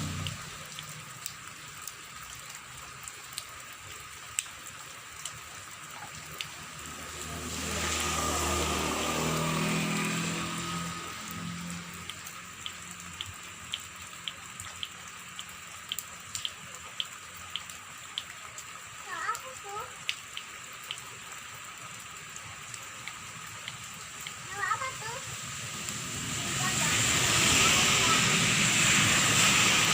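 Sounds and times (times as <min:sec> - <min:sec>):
raindrops plinking: 0:00.0 - 0:29.9
steady rain falling: 0:00.0 - 0:29.9.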